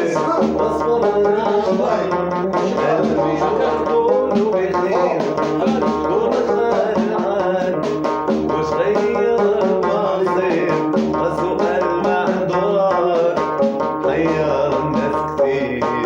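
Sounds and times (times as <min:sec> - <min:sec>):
hand drums: 0:00.0 - 0:16.0
plucked string instruments: 0:00.0 - 0:16.0
wavering melody: 0:00.0 - 0:16.0.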